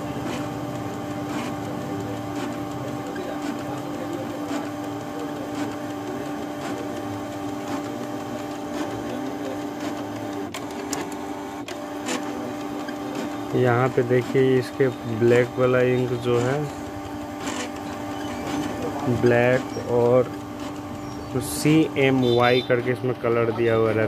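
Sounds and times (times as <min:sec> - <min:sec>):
light printer clicks: 0:00.0 - 0:24.0
printer mechanical hum: 0:00.0 - 0:24.0.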